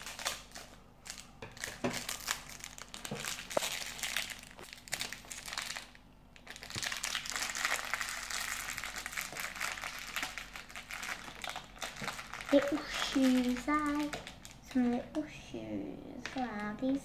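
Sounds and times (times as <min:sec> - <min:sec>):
plastic wrapper crinkling: 0:00.0 - 0:15.4, 0:16.1 - 0:17.0.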